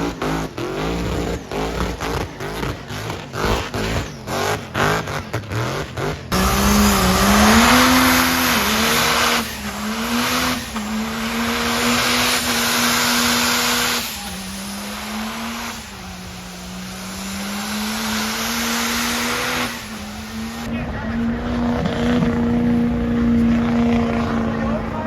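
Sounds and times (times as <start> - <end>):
tire noise rushing: 0.0 - 25.0
truck engine revving: 0.0 - 25.0.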